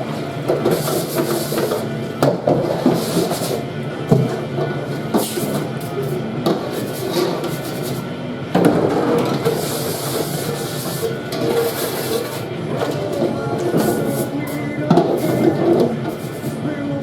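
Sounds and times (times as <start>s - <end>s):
metal trays clattering: 0.0s - 16.6s.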